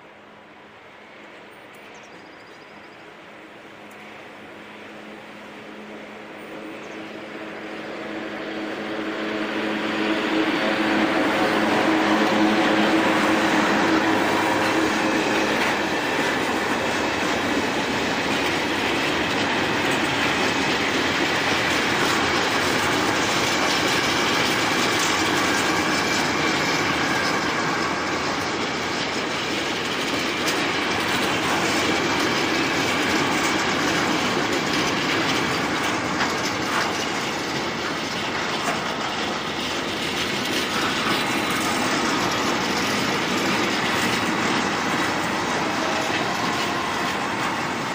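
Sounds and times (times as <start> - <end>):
locomotive hum: 0.0 - 47.9
train wheels rumbling on rails: 0.0 - 47.9.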